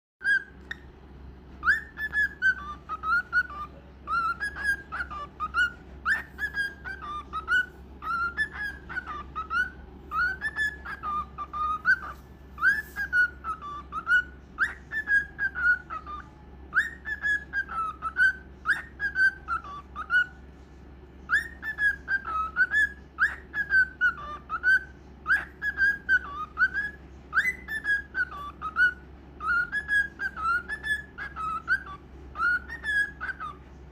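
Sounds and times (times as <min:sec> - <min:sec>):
cockatiel whistling: 0:00.2 - 0:33.9.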